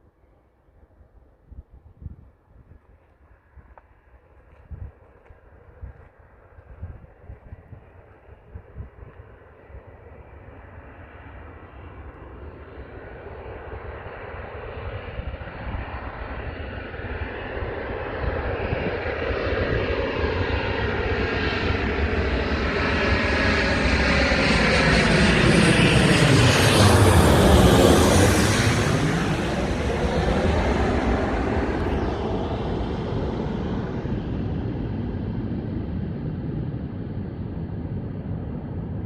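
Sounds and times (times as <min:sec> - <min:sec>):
airplane engine noise: 0:00.0 - 0:39.0.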